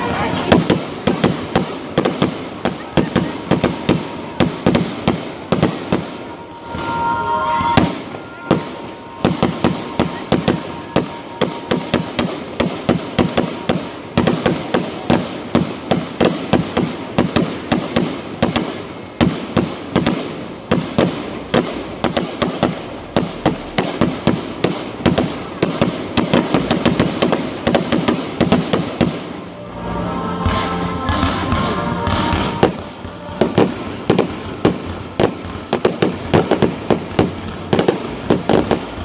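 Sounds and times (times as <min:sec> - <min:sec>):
fireworks banging and crackling: 0:00.0 - 0:39.0.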